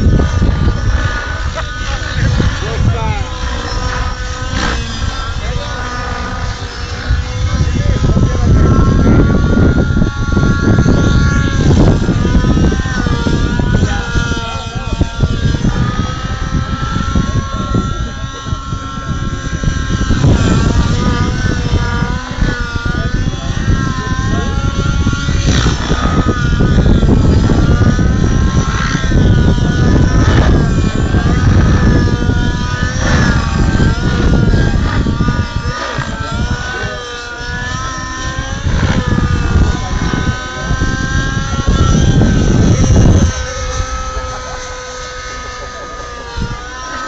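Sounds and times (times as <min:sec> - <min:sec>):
heavy low rumble: 0:00.0 - 0:47.0
model helicopter engine whine: 0:00.0 - 0:47.0.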